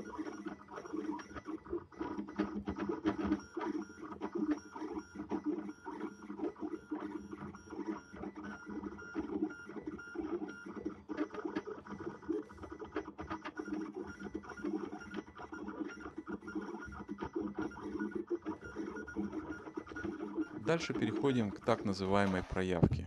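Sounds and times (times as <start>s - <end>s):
printer ticks: 0.0s - 22.9s.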